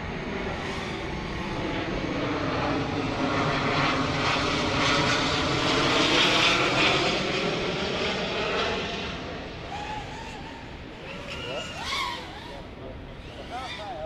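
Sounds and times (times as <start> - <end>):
drone motors and propellers whining: 0.0 - 14.0.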